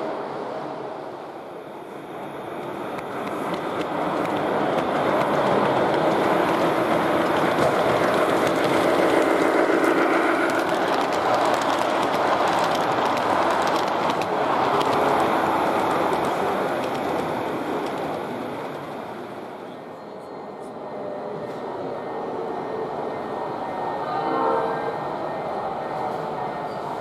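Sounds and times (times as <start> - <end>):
model locomotive running on rails: 1.5 - 27.0.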